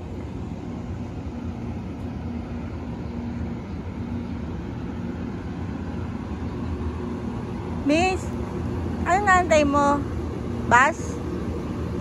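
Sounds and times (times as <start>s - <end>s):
city street rumble: 0.0s - 12.0s
faint hum: 0.0s - 12.0s.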